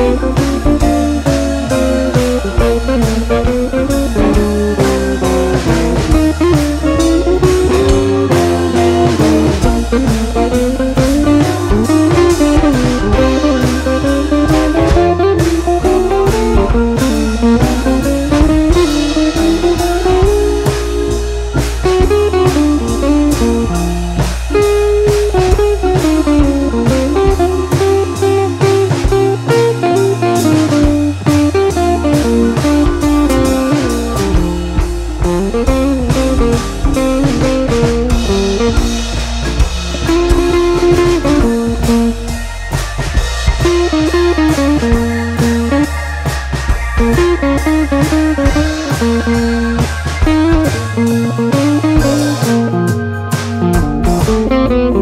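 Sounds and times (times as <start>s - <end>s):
blues guitar tune: 0.0s - 55.0s
steady drum beat: 0.0s - 55.0s.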